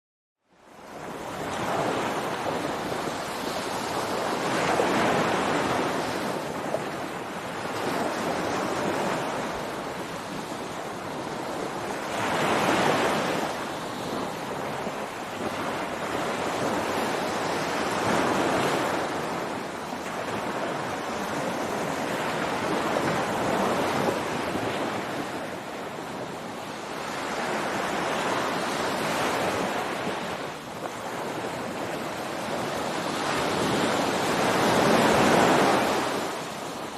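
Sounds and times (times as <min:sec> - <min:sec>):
ocean waves breaking: 0:00.7 - 0:36.9.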